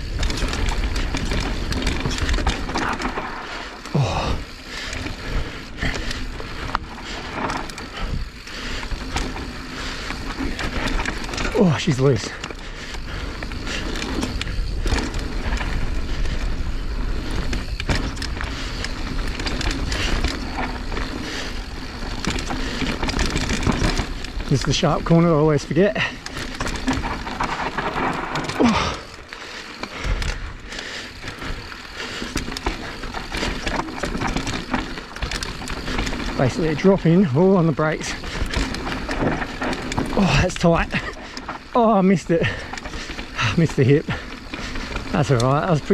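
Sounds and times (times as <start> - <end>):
bike rattling clicks and knocks: 0.0 - 45.9
bike tyres on dirt trail: 0.0 - 45.9.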